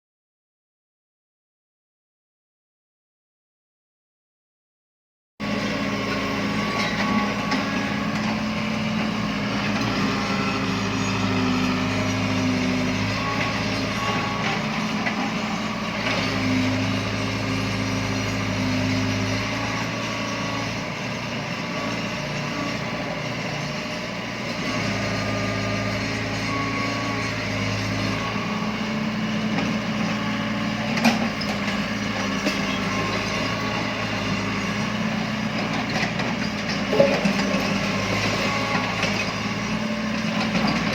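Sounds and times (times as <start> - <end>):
excavator engine drone: 5.4 - 40.9.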